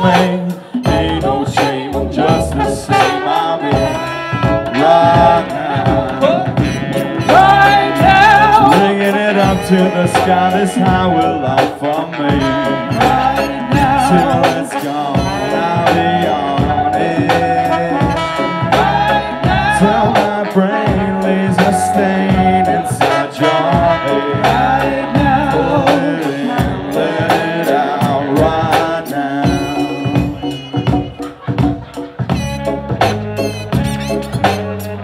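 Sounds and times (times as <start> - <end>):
bass: 0.0 - 35.0
drum beat: 0.0 - 35.0
saxophone: 0.0 - 35.0
trombone: 0.0 - 35.0.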